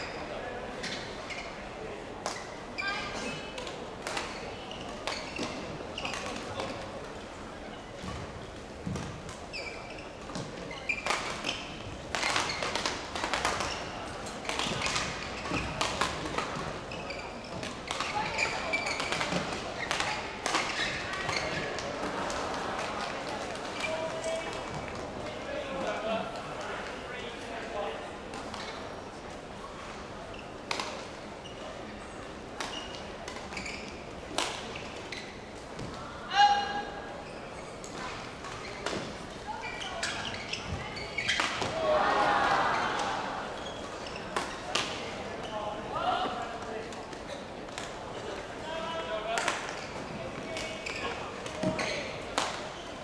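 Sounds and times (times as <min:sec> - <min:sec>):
shoes squeaking on court: 0:00.0 - 0:25.4, 0:28.4 - 0:36.1, 0:37.2 - 0:41.8, 0:42.6 - 0:48.4, 0:49.3 - 0:53.0
sports hall background noise: 0:00.0 - 0:53.0.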